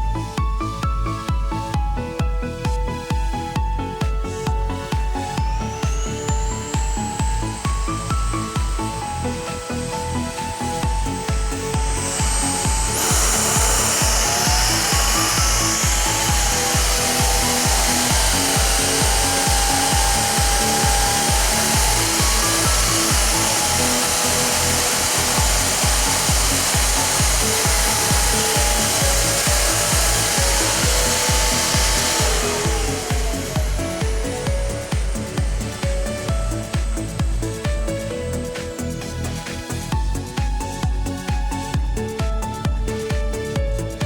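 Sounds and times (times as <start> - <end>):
background music with beat: 0.0 - 44.0
vacuum cleaner motor whine: 0.0 - 44.0.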